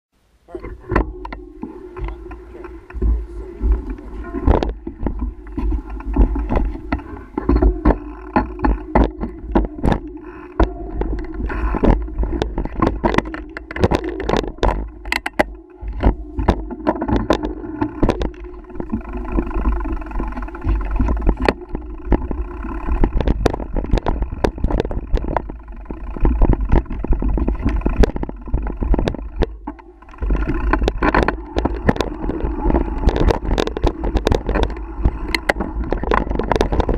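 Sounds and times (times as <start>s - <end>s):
wind rumble on microphone: 0.6s - 36.9s
bike rattling over rough ground: 0.8s - 36.9s.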